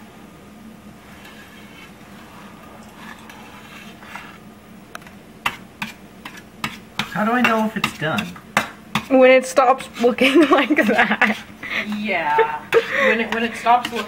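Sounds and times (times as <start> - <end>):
spatula scraping frying pan: 1.0 - 4.5, 5.4 - 14.0.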